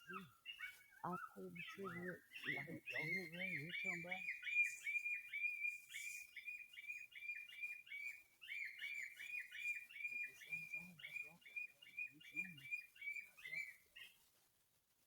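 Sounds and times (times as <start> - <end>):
bird chirping rapidly: 0.0 - 13.8.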